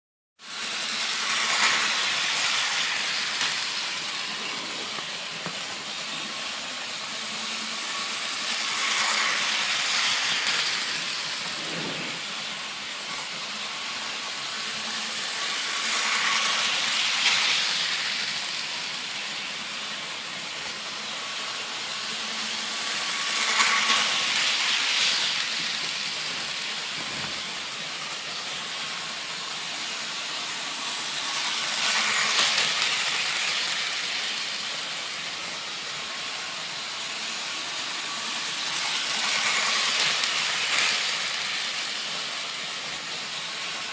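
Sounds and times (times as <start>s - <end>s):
model train running on track: 0.4s - 43.9s.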